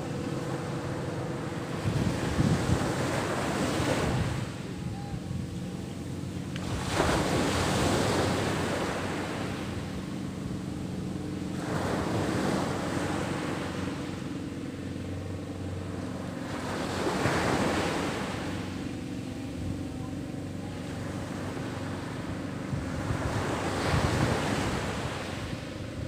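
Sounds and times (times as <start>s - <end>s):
sea surf breaking on shore: 0.0s - 26.0s.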